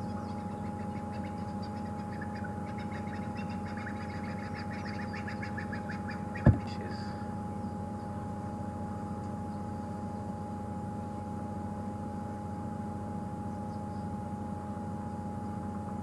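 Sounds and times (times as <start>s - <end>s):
thin steady whine: 0.0s - 16.0s.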